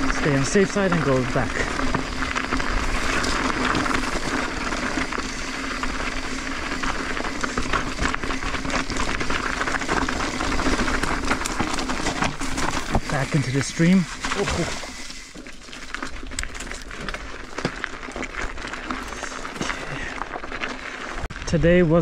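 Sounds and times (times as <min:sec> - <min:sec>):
bike rattling and knocking: 0:00.0 - 0:21.4
tyres rolling over gravel: 0:00.0 - 0:22.0.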